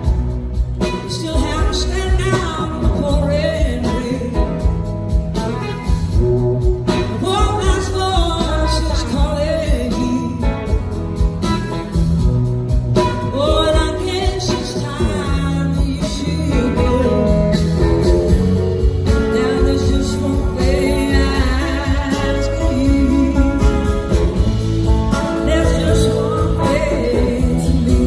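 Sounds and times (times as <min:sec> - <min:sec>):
live rock band playing: 0:00.0 - 0:28.0
woman singing: 0:00.8 - 0:04.9, 0:06.9 - 0:10.9, 0:13.0 - 0:28.0.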